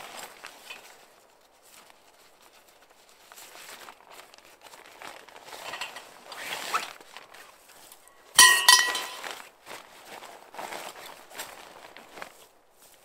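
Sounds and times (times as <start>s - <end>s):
fabric rustling and swishing: 0.0s - 8.0s, 8.7s - 13.0s.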